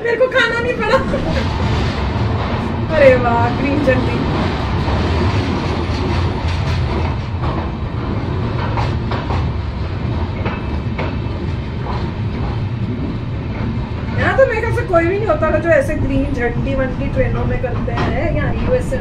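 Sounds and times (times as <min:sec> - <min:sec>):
train low rumble: 0:00.0 - 0:19.0
wheels clanking over rail joints: 0:00.1 - 0:19.0.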